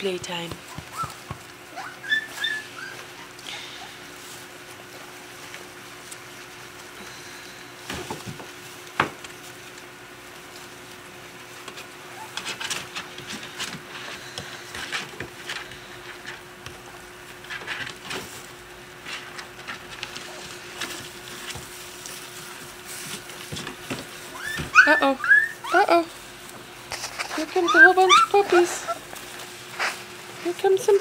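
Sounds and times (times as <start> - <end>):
puppies scuffling and pattering: 0.0 - 7.1, 7.8 - 31.0
faint steady hum: 0.0 - 31.0.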